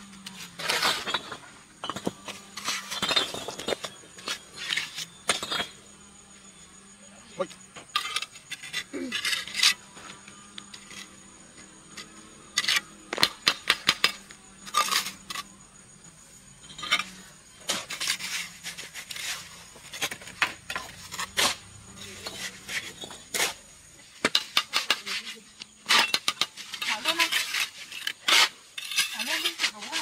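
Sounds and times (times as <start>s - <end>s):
high insect buzz: 0.0s - 24.2s.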